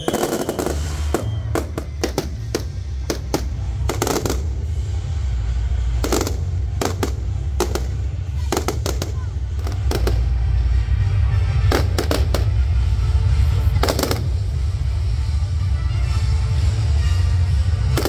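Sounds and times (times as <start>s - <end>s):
fireworks bangs and cracks: 0.0s - 15.6s, 16.2s - 18.0s
music with heavy bass: 0.0s - 18.0s.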